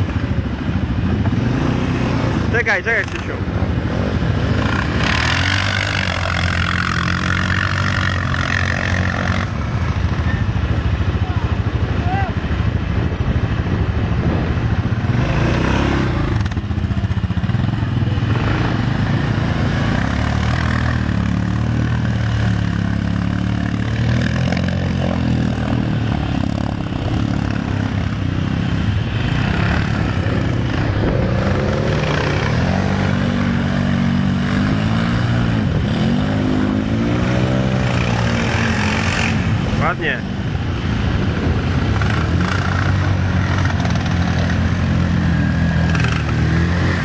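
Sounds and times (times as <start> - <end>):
quad engine revving: 1.0 - 10.4, 14.2 - 40.3, 41.0 - 47.0.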